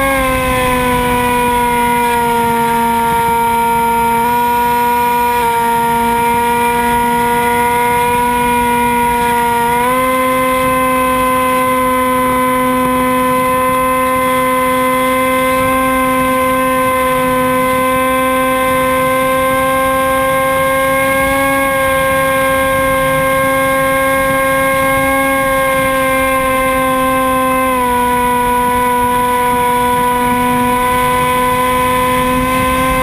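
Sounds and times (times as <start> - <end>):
model plane propeller whine: 0.0 - 33.0.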